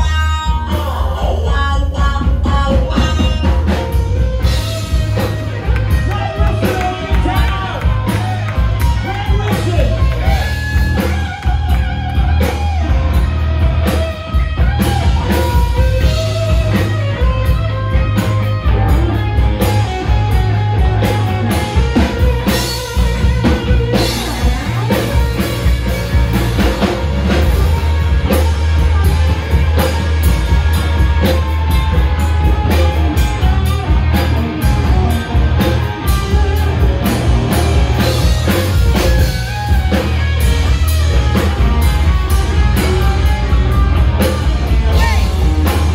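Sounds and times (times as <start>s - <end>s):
bass guitar: 0.0s - 45.9s
drum kit: 0.0s - 45.9s
electric guitar: 0.0s - 45.9s.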